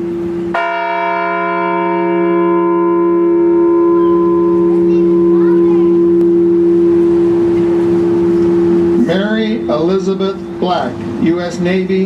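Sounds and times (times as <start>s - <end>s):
large bell ringing: 0.0s - 11.8s.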